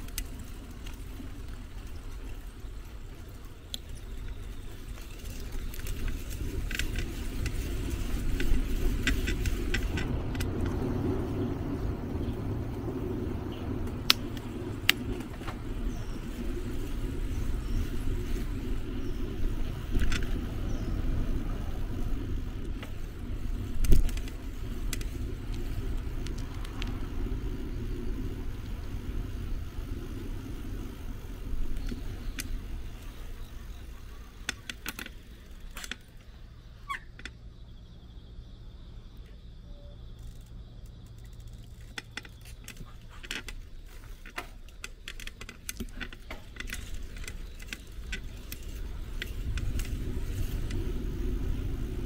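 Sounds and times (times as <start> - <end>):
bicycle clicks and rattles: 0.0 - 37.4, 40.0 - 52.0
wind and road rumble: 0.0 - 52.0.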